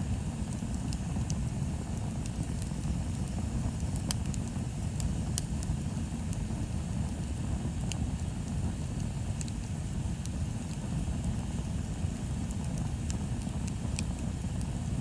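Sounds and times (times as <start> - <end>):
burning wood crackling and popping: 0.0 - 15.0
fire low rumble: 0.0 - 15.0.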